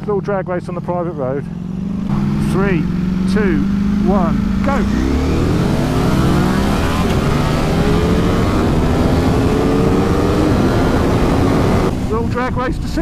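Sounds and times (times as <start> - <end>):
motorcycles accelerating hard: 0.0 - 13.0.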